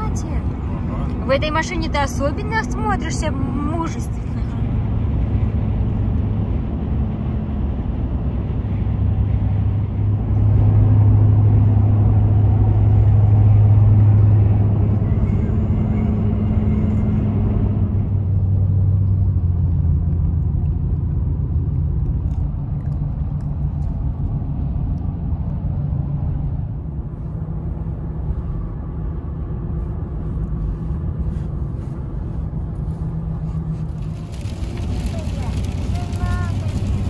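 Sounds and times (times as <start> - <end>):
engine and road noise in cabin: 0.0 - 37.0.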